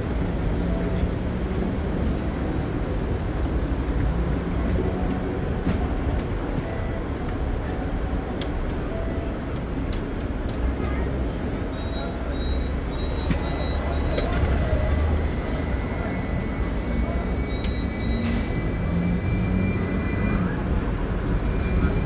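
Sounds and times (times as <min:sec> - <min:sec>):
tram rumble: 0:00.0 - 0:22.0.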